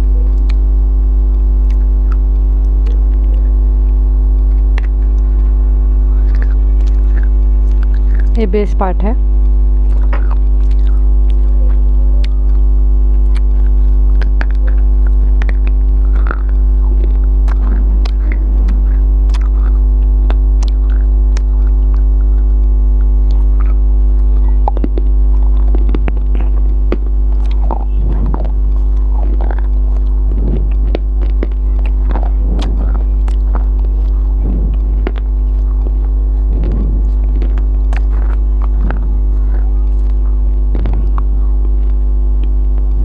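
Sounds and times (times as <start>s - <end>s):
electrical mains hum: 0.0s - 43.0s
person chewing food: 1.3s - 3.5s, 6.2s - 8.4s, 9.4s - 43.0s.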